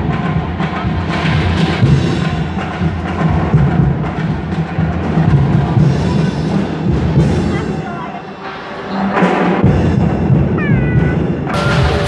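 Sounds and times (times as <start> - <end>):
loud drumming and percussion: 0.0 - 12.0.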